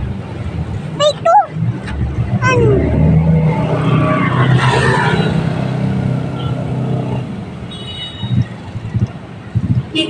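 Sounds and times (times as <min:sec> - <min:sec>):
car engines: 0:00.0 - 0:10.0.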